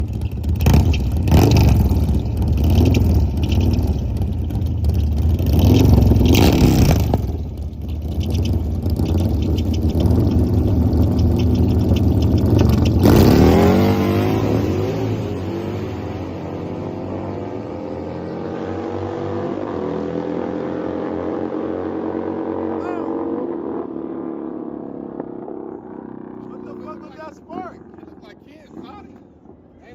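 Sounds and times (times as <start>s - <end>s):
motorcycle engine revving hard: 0.0s - 28.9s.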